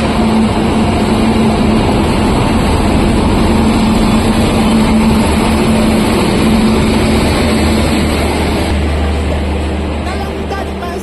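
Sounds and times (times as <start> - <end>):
low hum: 0.0 - 11.0
train rumbling: 0.0 - 11.0.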